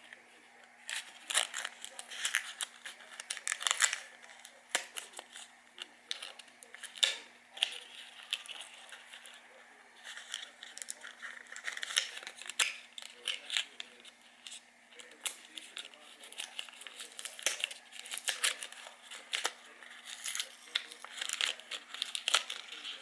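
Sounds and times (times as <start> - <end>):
crinkling and rustling: 0.0 - 23.0
faint steady hum: 0.0 - 23.0.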